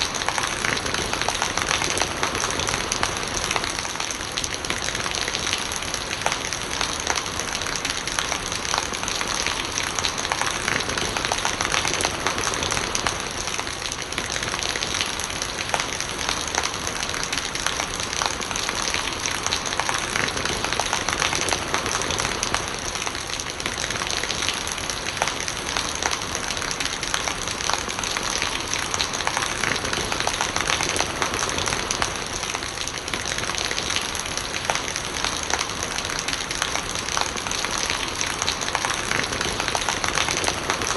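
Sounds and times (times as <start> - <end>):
rainwater gurgling: 0.0 - 40.9
steady rain falling: 0.0 - 40.9.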